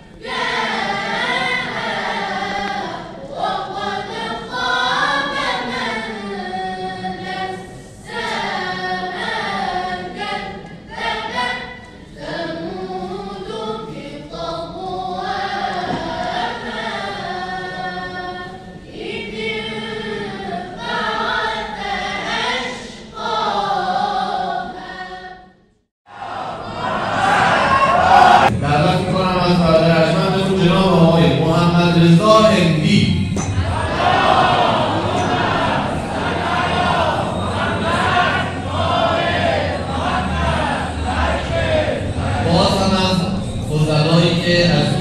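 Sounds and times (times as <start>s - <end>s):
loud chant: 0.0s - 25.5s, 26.1s - 45.0s
boys' choir singing in unison: 0.0s - 45.0s.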